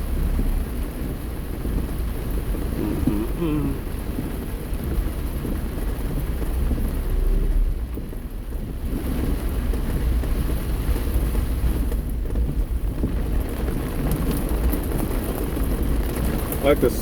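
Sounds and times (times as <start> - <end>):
heavy rain pattering on car: 0.0 - 17.0
low rumble of car and road: 0.0 - 17.0.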